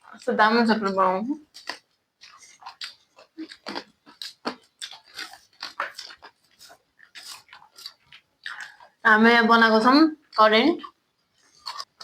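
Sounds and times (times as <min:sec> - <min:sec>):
crunchy snack chewing: 0:00.0 - 0:09.0, 0:10.8 - 0:12.0.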